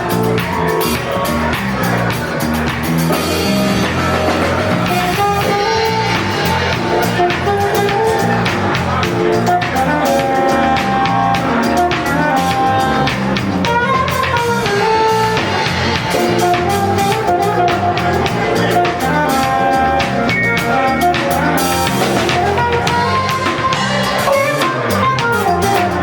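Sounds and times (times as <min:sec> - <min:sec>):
drum kit beat: 0:00.0 - 0:26.0
guitar melody: 0:00.0 - 0:26.0.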